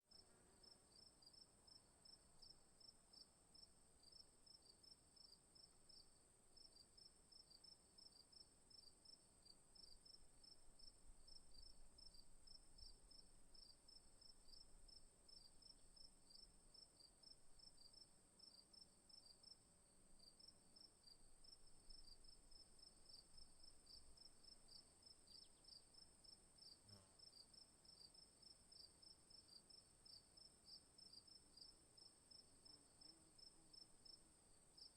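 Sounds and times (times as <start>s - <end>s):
crickets chirping: 0.1s - 19.6s, 20.2s - 34.9s.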